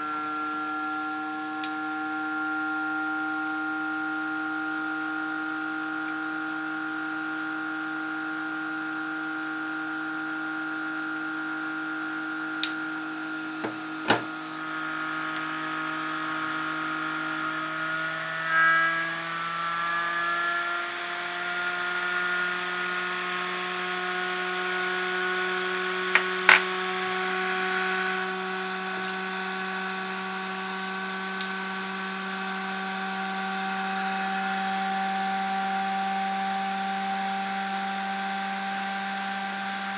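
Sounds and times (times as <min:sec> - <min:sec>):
rotor spinning whine: 0:00.0 - 0:39.9.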